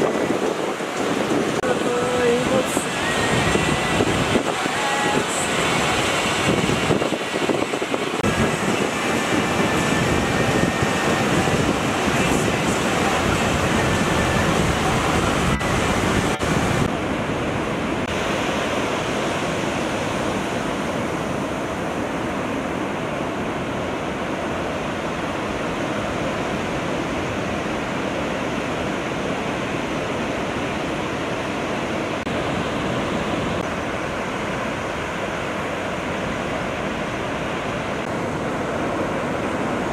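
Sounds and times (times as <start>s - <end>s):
ocean surf breaking: 0.0s - 39.9s
wind on microphone: 0.0s - 39.9s.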